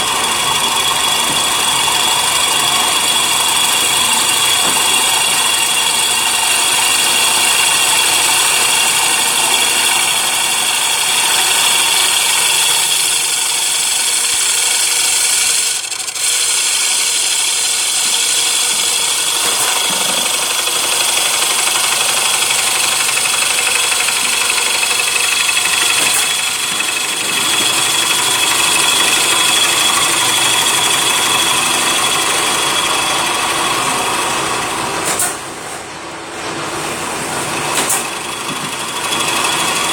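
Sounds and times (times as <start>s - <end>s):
wood lathe whining: 0.0s - 35.4s, 37.1s - 39.9s.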